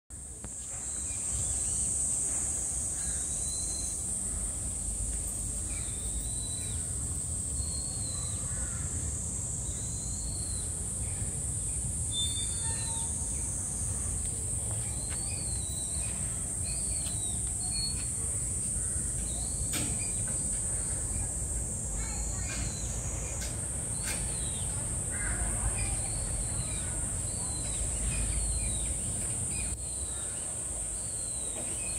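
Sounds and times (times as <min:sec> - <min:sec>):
high-pitched insect drone: 0:00.7 - 0:30.4.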